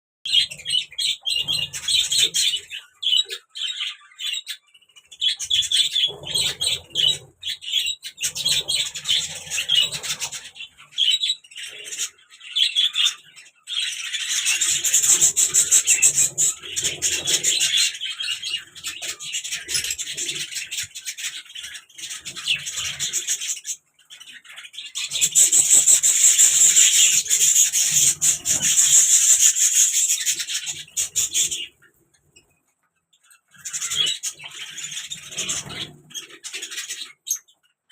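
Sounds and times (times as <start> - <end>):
small birds chirping: 0.2 - 37.9.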